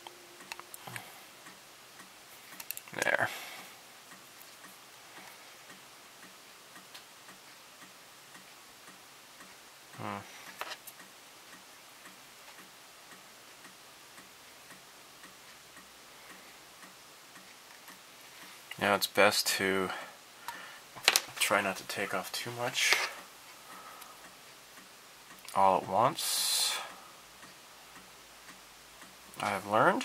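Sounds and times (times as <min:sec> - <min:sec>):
faint steady ticking: 0:00.0 - 0:30.0.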